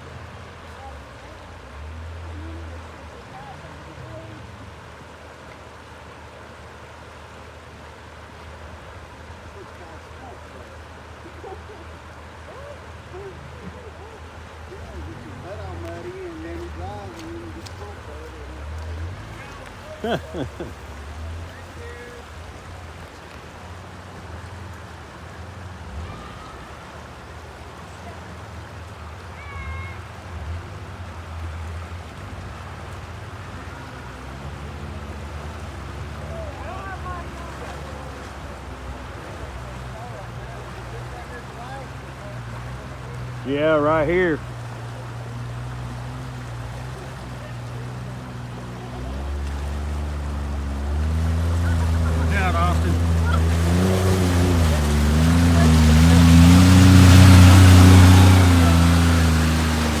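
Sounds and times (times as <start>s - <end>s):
utility vehicle engine rumble: 0.0s - 60.0s
water splashing and rushing: 0.0s - 60.0s.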